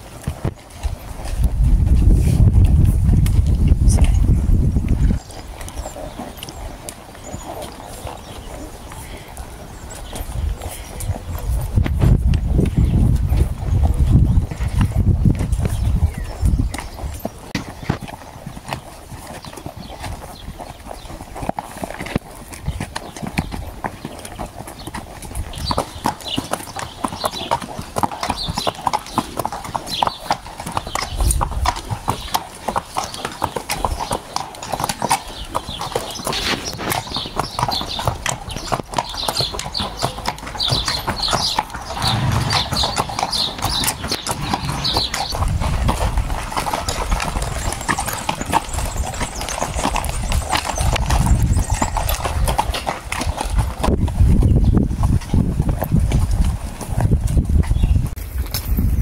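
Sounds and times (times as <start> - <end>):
horse hooves clip-clopping: 0.0 - 59.0.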